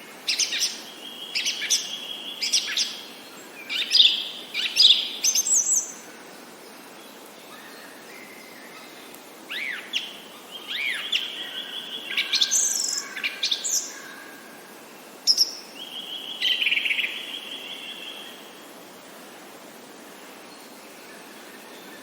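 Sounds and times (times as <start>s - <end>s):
songbirds singing: 0.0s - 22.0s
steady background hiss: 0.0s - 22.0s.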